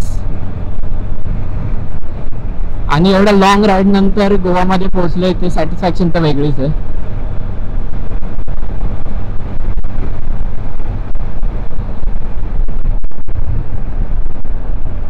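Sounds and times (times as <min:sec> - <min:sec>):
motorcycle engine humming: 0:00.0 - 0:15.0
wind rushing over microphone: 0:00.0 - 0:15.0.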